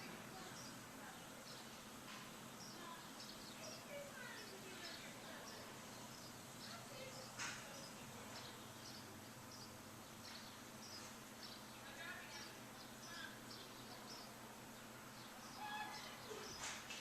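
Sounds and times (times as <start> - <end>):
small songbirds chirping: 0.0 - 17.0
steady background hiss: 0.0 - 17.0.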